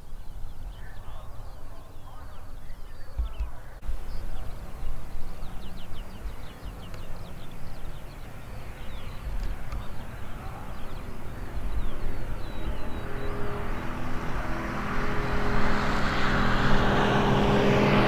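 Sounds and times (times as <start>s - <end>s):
small birds chirping: 0.0s - 17.5s.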